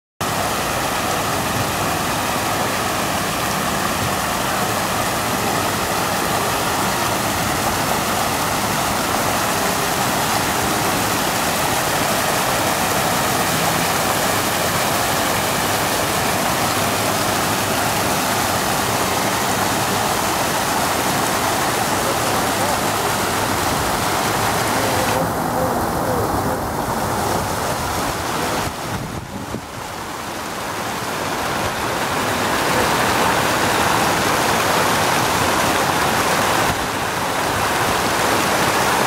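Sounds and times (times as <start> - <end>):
fountain water splashing: 0.2 - 39.0.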